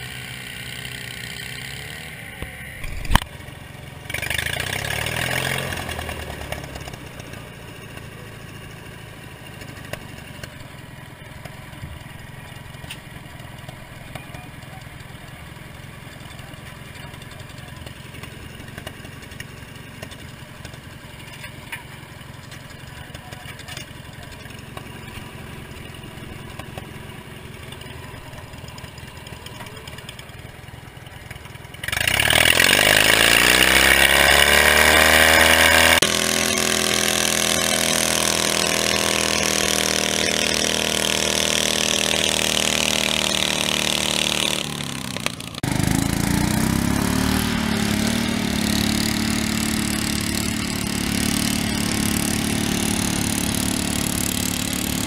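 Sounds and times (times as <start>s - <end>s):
small tractor engine revving: 0.0s - 55.0s.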